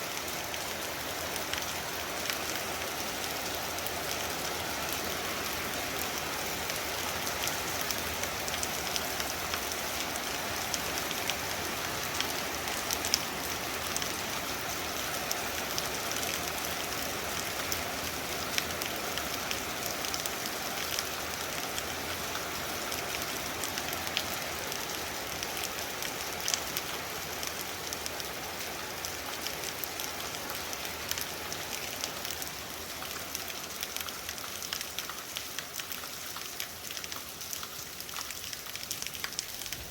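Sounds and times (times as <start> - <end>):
heavy rain falling: 0.0 - 39.9
raindrops splashing on hard surfaces: 0.0 - 39.9.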